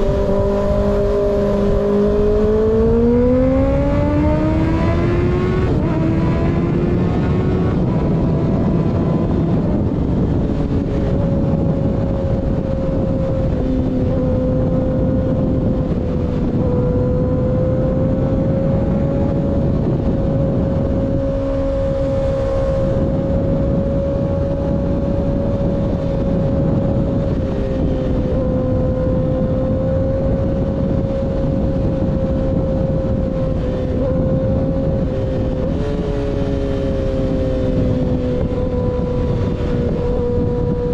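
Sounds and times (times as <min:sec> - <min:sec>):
motorcycle engine at high rpm: 0:00.0 - 0:40.9
wind rushing: 0:00.0 - 0:40.9.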